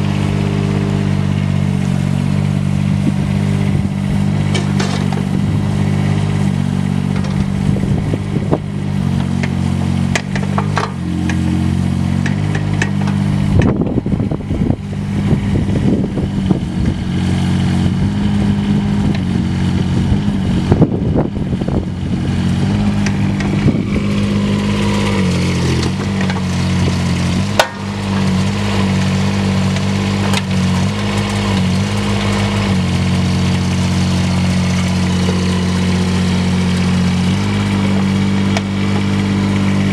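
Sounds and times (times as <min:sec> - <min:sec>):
mini excavator diesel engine: 0:00.0 - 0:39.9.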